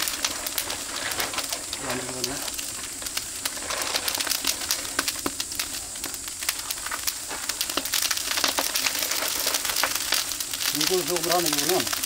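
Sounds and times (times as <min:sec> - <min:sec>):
meat sizzling on grill: 0:00.0 - 0:12.0
wood fire crackling: 0:00.0 - 0:12.0.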